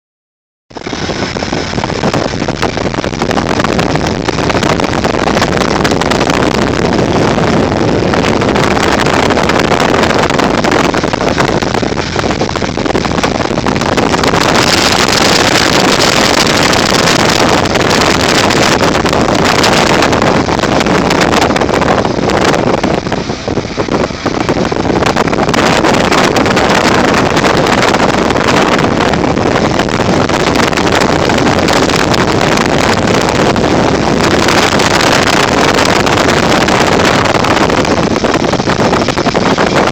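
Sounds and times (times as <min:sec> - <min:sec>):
vehicle running: 0:00.7 - 0:39.9
wind buffeting microphone: 0:00.7 - 0:39.9.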